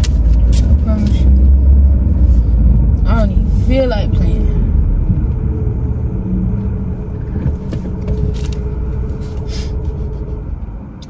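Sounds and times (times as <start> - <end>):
car cabin rumble: 0.0 - 11.0
faint steady hum: 0.0 - 11.0.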